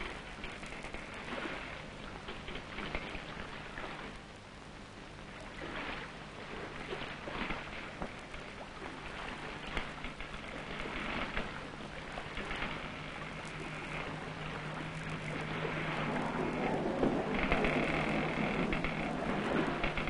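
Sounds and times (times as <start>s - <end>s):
low hum: 0.0s - 20.0s
sea wash: 0.0s - 20.0s
small clicks and crackles: 0.0s - 20.0s
wind: 0.0s - 20.0s.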